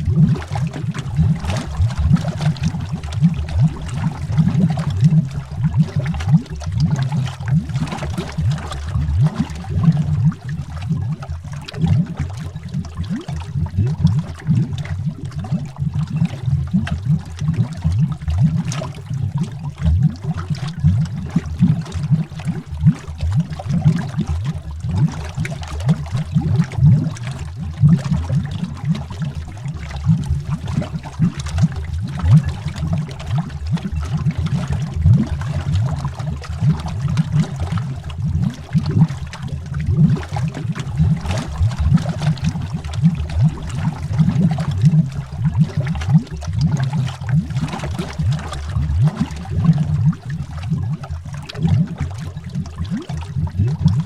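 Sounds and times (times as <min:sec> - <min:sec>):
underwater bubbling: 0:00.0 - 0:54.0.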